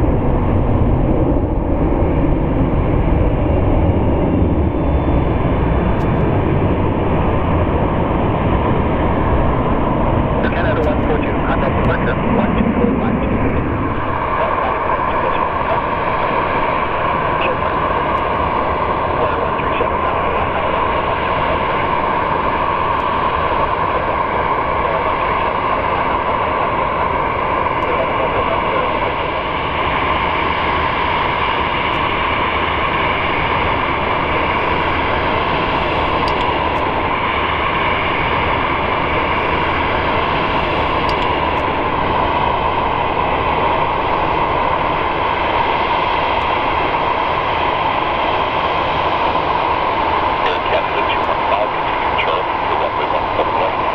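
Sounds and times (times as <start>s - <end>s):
jet engines idling: 0.0s - 53.9s.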